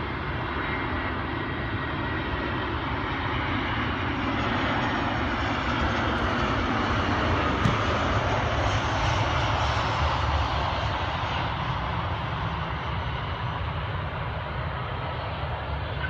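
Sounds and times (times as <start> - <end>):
airliner engines rushing: 0.0 - 16.0.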